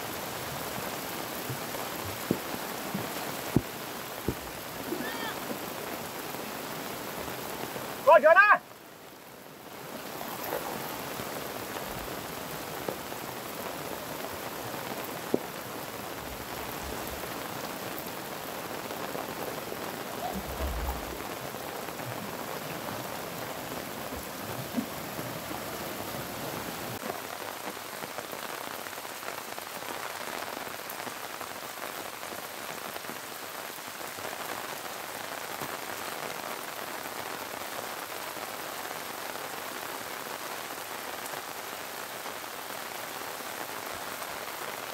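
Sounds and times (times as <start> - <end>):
flood water rushing: 0.0 - 44.9
heavy rain: 0.0 - 44.9.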